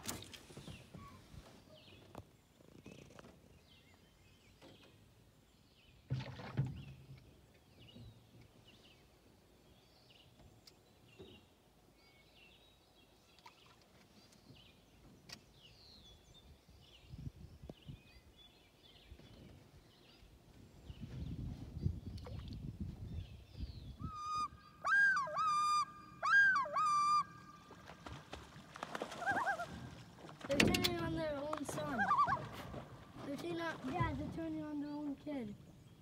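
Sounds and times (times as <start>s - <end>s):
distant songbirds chirping: 0.3s - 36.0s.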